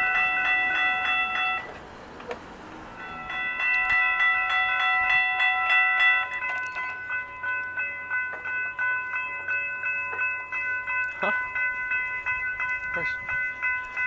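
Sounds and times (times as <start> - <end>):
railroad crossing bell ringing: 0.0 - 14.0.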